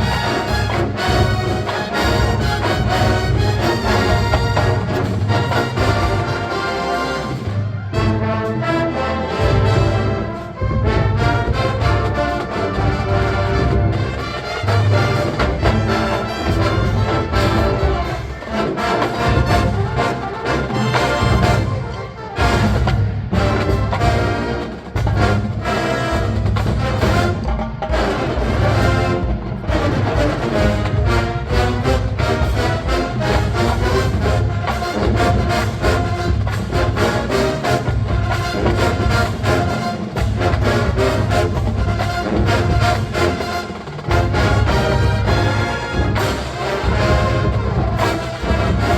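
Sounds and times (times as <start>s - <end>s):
drums: 0.0s - 48.9s
marching band playing funk: 0.0s - 48.9s.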